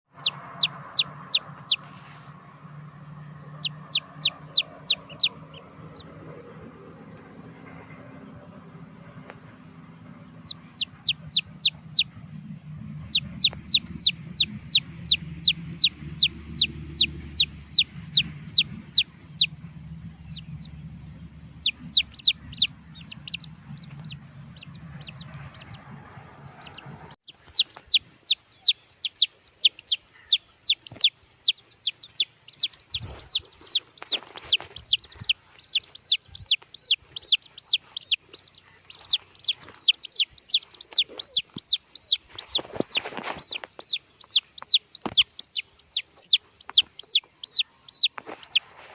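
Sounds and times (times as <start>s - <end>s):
chicks peeping: 0.1s - 48.9s.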